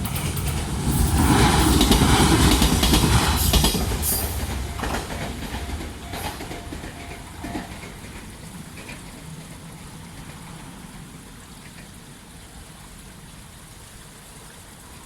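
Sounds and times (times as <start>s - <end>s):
train rumbling past: 0.0s - 12.8s
steady rain falling: 0.0s - 13.6s.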